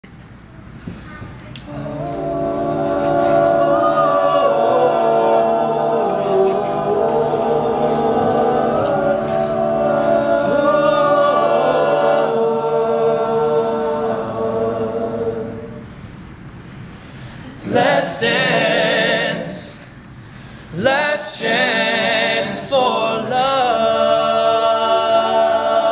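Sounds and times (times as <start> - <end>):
men singing a cappella: 1.7 - 15.7, 17.6 - 19.9, 20.7 - 25.9.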